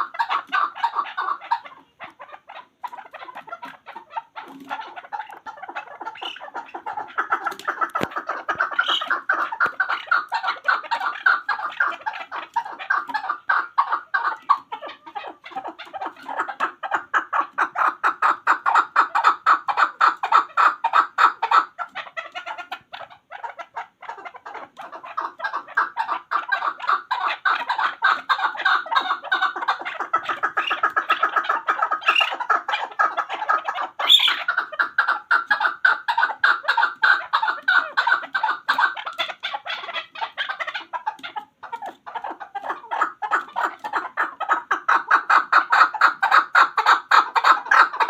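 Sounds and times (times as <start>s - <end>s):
partridge clucking calls: 0.0s - 48.0s.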